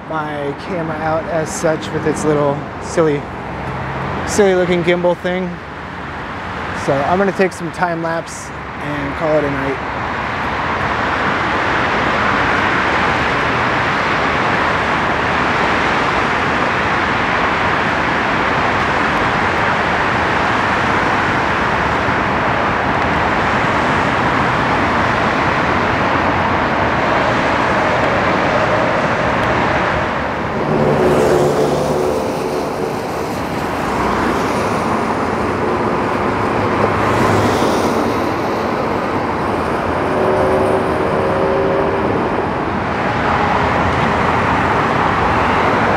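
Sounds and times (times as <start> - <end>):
freeway traffic rush: 0.0 - 45.9
steady vehicle engine hum: 0.0 - 45.9
vehicles passing close by: 0.0 - 45.9.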